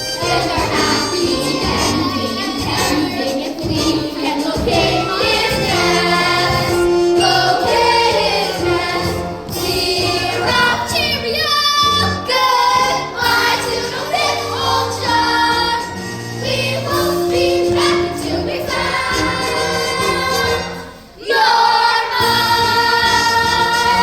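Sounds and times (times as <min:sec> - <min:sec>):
instrumental accompaniment: 0:00.0 - 0:24.0
group singing a chorus: 0:00.2 - 0:11.0, 0:12.2 - 0:24.0.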